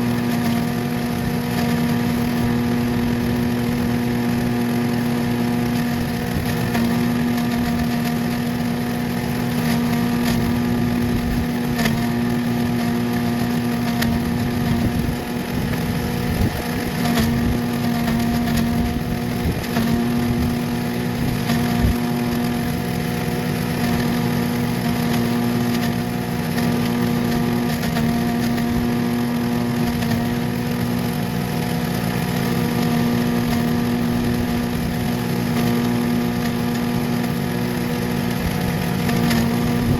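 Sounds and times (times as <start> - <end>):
chipper shredder engine running: 0.0 - 39.9.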